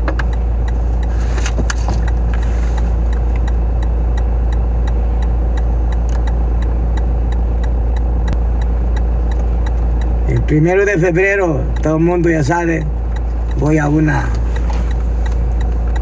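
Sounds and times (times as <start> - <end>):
faint regular ticking: 0.0 - 1.1, 1.7 - 16.0
car engine idling: 0.0 - 16.0.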